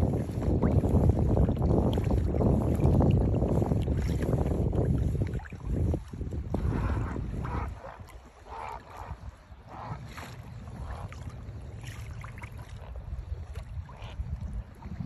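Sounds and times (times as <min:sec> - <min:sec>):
small waves splashing against hull: 0:00.0 - 0:15.0
wind buffeting microphone: 0:00.0 - 0:15.0.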